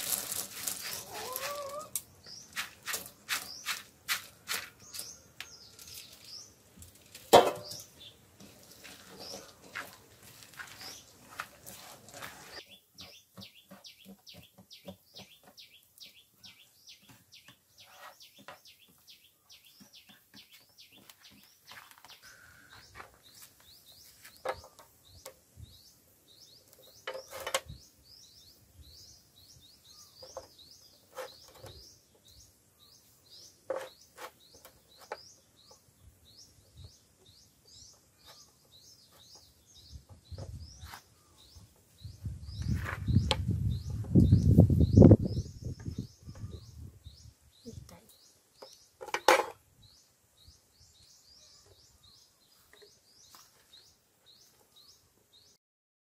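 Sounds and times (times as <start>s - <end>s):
small birds chirping: 0.0s - 55.6s.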